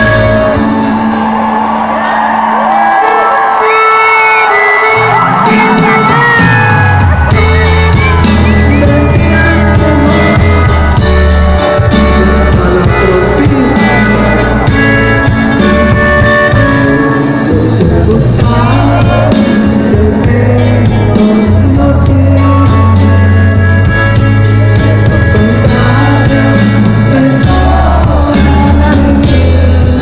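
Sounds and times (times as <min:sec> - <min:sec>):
live band music: 0:00.0 - 0:30.0
person singing: 0:00.0 - 0:30.0.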